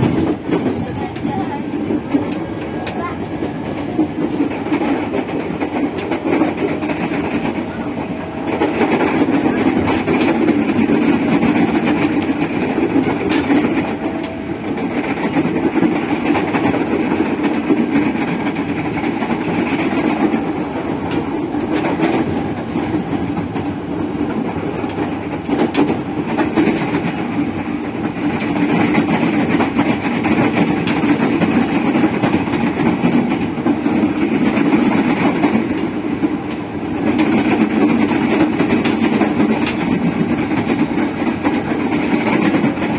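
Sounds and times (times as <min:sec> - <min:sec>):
rail joint clicks: 0:00.0 - 0:42.9
train motors and wheels rumbling: 0:00.0 - 0:42.9.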